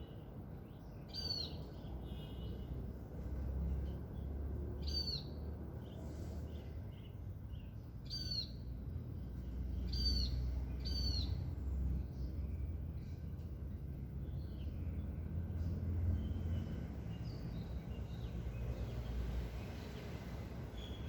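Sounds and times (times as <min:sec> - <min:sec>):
soft bird chirps: 0:00.0 - 0:21.0.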